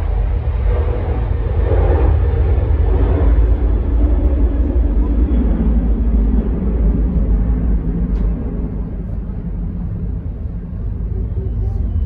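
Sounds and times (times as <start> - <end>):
muffled jet engines rumbling: 0.0 - 12.0.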